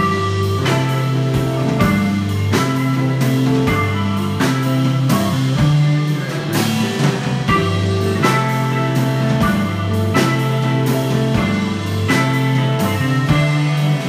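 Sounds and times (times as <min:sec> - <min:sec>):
held bass notes: 0:00.0 - 0:14.0
live rock band playing: 0:00.0 - 0:14.0.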